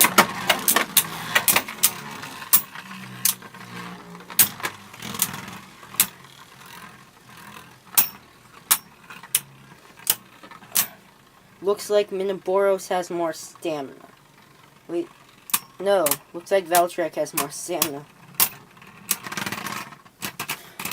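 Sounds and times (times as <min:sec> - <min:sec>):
spinning tops clacking: 0:00.0 - 0:11.6, 0:13.5 - 0:20.9
spinning tops whirring: 0:00.0 - 0:20.9.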